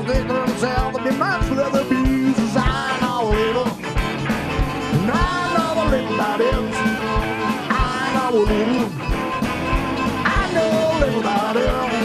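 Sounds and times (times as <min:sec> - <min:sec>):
fiddle: 0:00.0 - 0:12.0
rock band playing live: 0:00.0 - 0:12.0.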